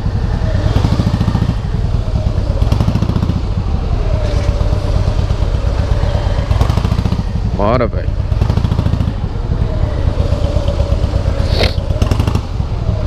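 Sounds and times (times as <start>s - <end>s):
motorcycle engine beat: 0.0s - 13.0s.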